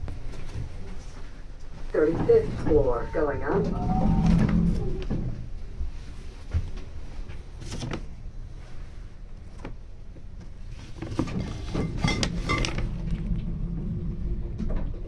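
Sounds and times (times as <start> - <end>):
elevator rumble: 0.0 - 15.0.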